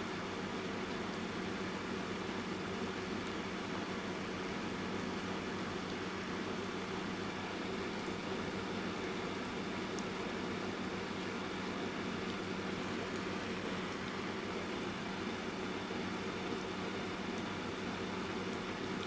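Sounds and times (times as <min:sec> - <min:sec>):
electric fan running: 0:00.0 - 0:19.0
soft rain: 0:00.1 - 0:19.0.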